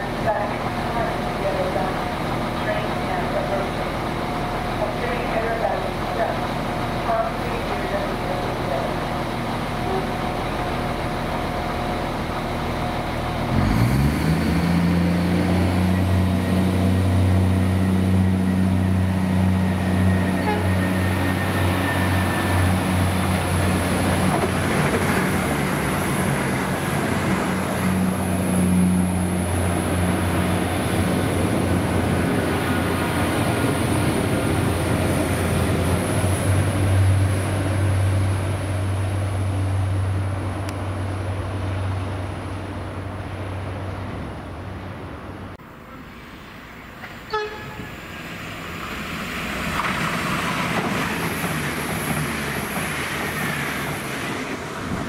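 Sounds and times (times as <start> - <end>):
passing train rushing: 0.0 - 55.0
train diesel engine droning: 0.0 - 55.0.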